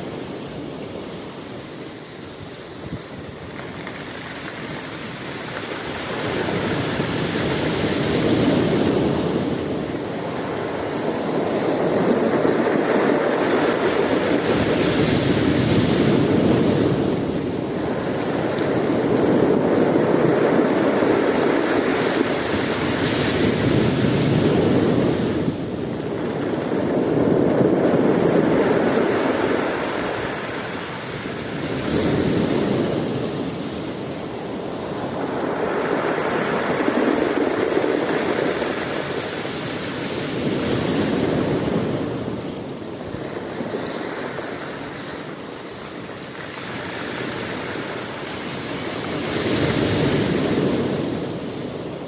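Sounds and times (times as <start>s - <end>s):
ocean waves breaking on shore: 0.0s - 52.0s.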